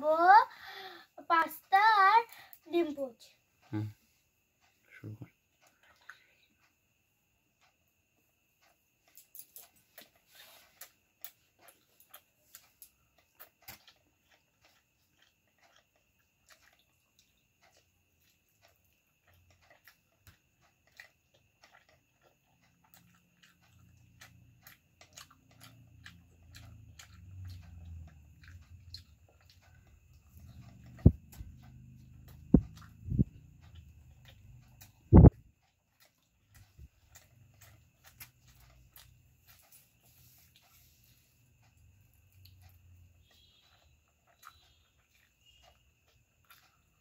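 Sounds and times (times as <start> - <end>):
child chewing mouth sounds: 0.0 - 47.0.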